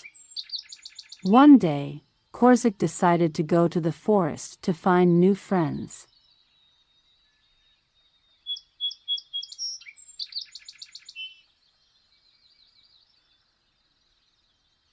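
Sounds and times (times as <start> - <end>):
songbird singing: 0.0 - 14.9.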